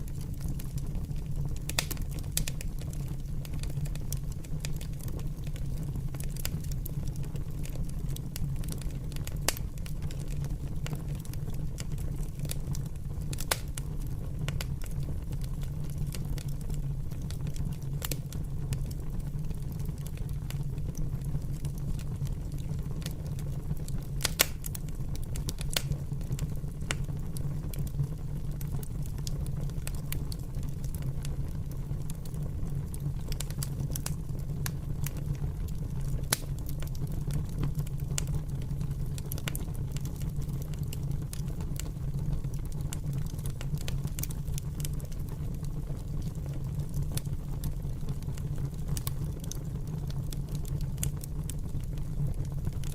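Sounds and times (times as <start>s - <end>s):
fire crackling and popping: 0.0s - 52.9s.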